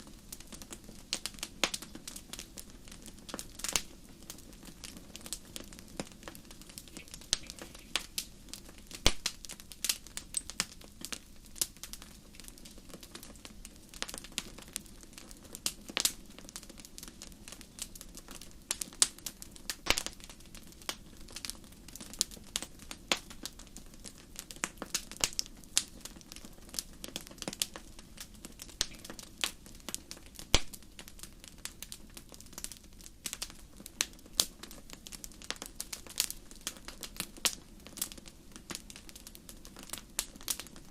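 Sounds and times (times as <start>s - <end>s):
low rush of flames: 0.0s - 40.9s
wood fire crackling and popping: 0.0s - 40.9s.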